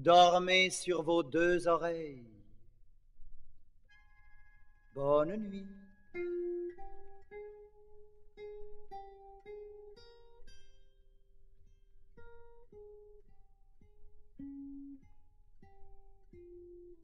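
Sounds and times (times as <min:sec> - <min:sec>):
plucked guitar melody: 0:03.2 - 0:17.0.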